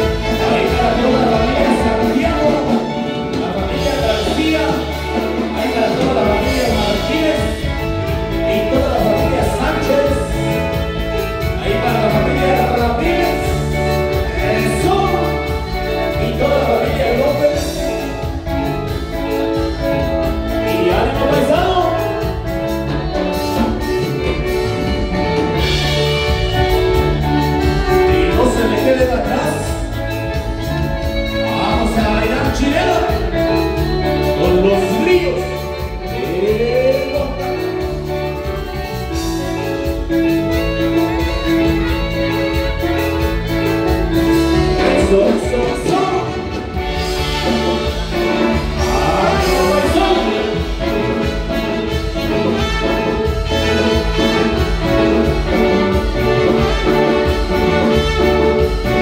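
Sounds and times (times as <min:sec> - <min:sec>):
live band playing dance music: 0:00.0 - 0:59.0.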